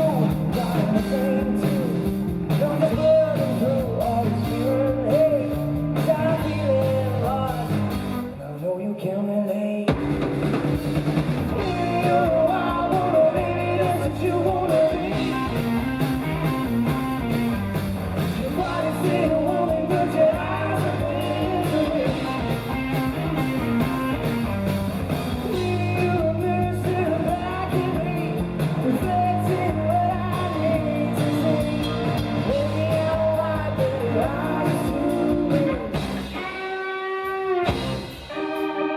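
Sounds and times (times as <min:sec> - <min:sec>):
drum kit: 0:00.0 - 0:08.4, 0:09.9 - 0:38.9
live rock band playing: 0:00.0 - 0:08.6, 0:09.5 - 0:38.9
lead singer singing: 0:00.0 - 0:10.1, 0:11.6 - 0:16.8, 0:18.3 - 0:22.9, 0:25.4 - 0:38.9.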